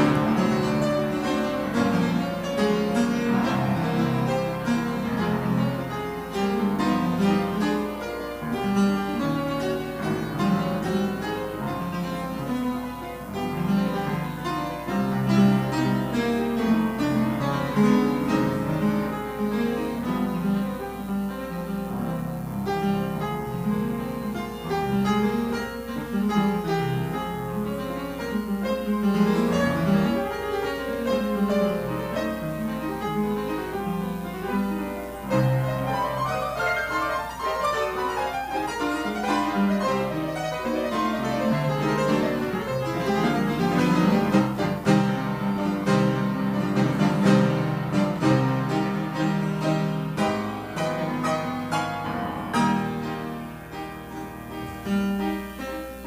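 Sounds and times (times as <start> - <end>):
classical piano music: 0.0 - 56.0.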